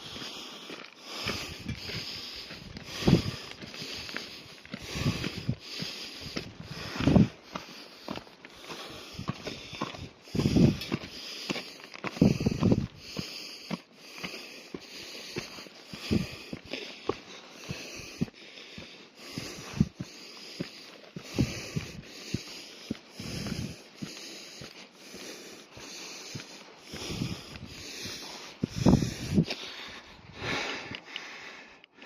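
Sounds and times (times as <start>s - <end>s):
person breathing hard: 0.0s - 32.0s.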